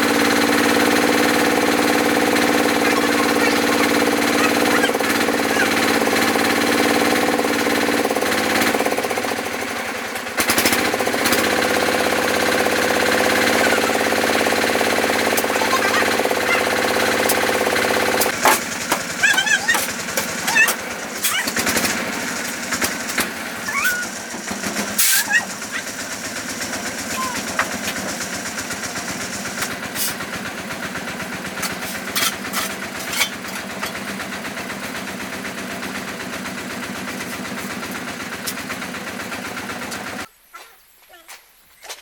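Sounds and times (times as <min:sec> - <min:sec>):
motor humming: 0:00.0 - 0:40.3.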